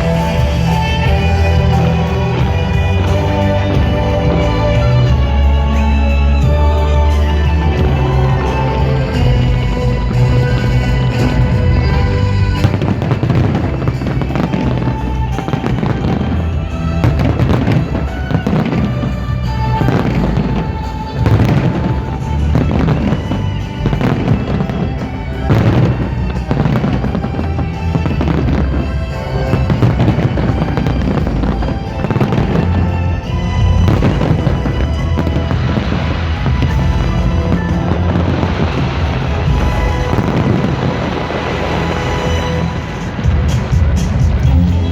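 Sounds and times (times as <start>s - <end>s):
fireworks bangs and crackles: 0.0s - 44.9s
loud music: 0.0s - 44.9s.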